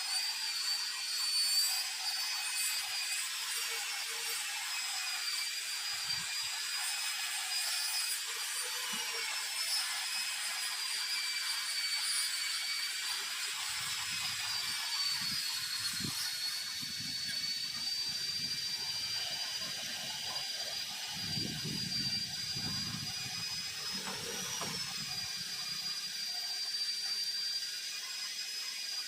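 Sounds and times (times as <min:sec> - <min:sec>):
tool rasping while cutting: 0:00.0 - 0:29.0.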